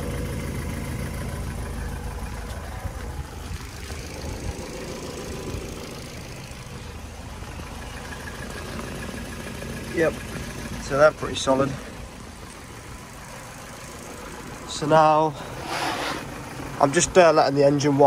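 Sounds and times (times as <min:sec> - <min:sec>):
car engine idling with tappet tick: 0:00.0 - 0:15.6, 0:16.2 - 0:18.0.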